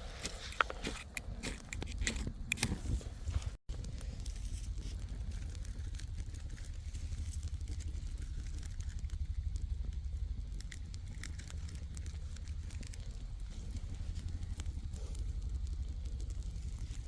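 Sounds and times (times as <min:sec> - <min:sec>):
low rumble: 0:00.0 - 0:17.0
small fire crackling: 0:00.0 - 0:17.0
fire sharp pops: 0:00.2 - 0:17.0.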